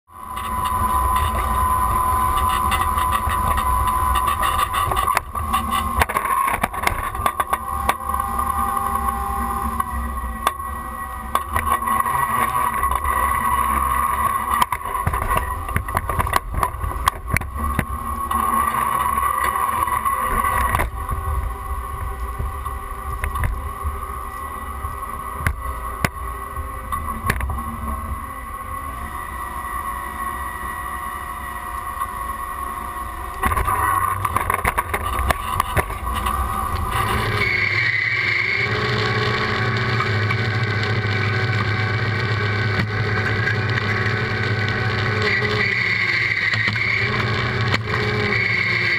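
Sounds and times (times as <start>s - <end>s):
tractor engine drone: 0.0s - 48.9s.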